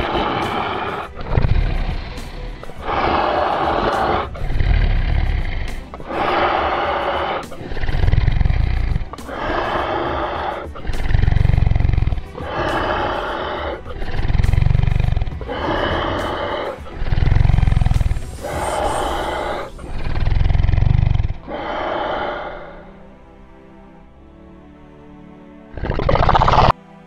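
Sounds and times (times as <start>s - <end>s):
dinosaur roars: 0.0s - 22.9s, 25.7s - 26.7s
background music: 0.0s - 27.0s.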